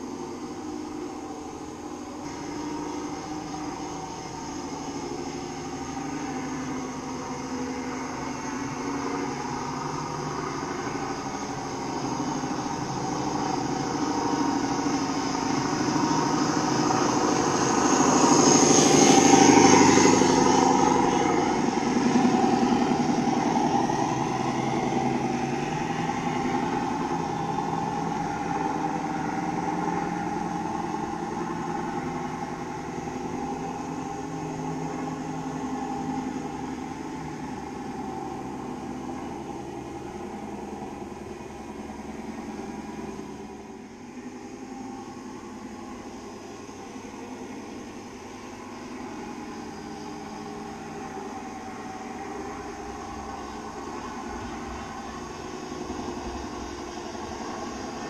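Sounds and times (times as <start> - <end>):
model truck engine: 0.0 - 58.0.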